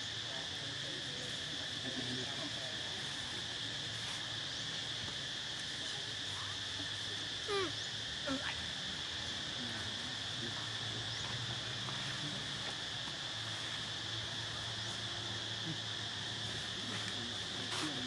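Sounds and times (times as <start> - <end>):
insect chorus buzzing: 0.0 - 18.0.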